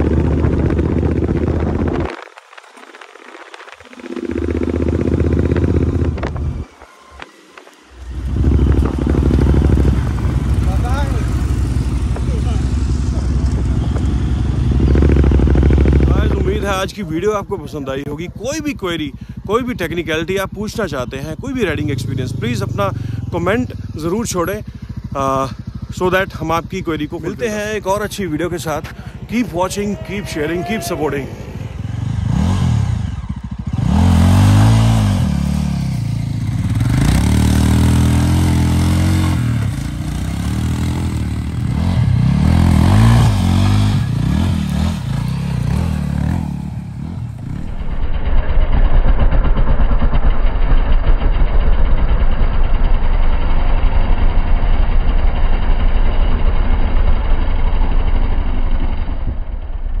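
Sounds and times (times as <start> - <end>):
fast-pulsing motorcycle engine: 0.0 - 60.0
motorcycle engines revving: 0.0 - 60.0.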